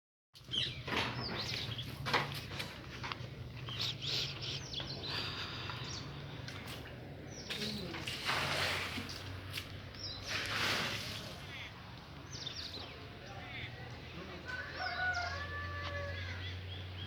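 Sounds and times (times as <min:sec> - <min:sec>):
small birds chirping: 0:00.4 - 0:08.2, 0:09.6 - 0:17.0.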